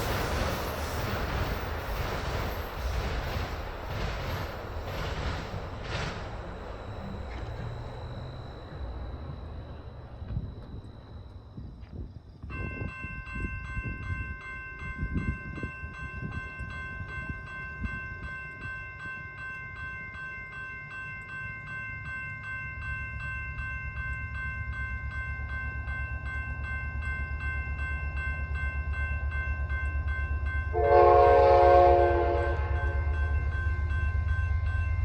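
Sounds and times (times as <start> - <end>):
railroad crossing bell ringing: 0.0 - 35.0
train low rumble: 0.0 - 35.0.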